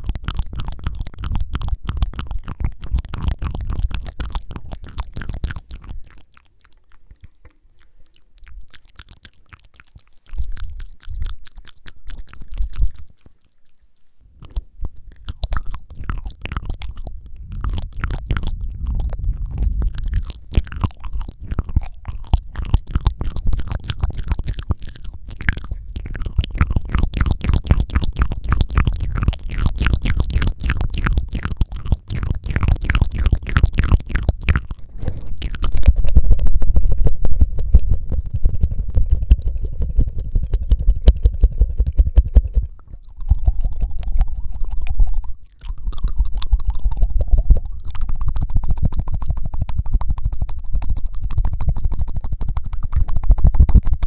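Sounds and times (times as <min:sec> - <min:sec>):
tongue fluttering and clicking: 0:00.0 - 0:54.0.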